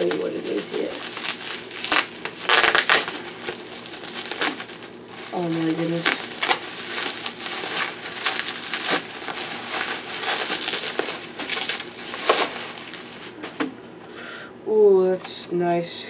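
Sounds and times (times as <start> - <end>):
bubble wrap crinkling: 0.0 - 13.5.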